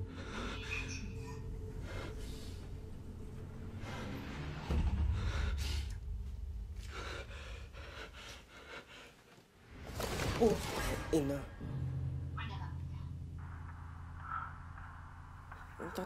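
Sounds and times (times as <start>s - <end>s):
low rumbling drone: 0.0s - 8.3s, 11.4s - 16.0s.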